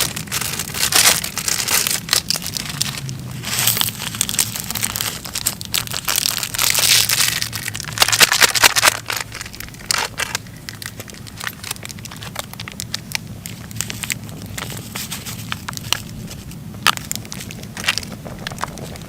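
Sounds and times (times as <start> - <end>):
crinkling and crushing: 0.0 - 19.0
steady low hum: 0.0 - 19.0.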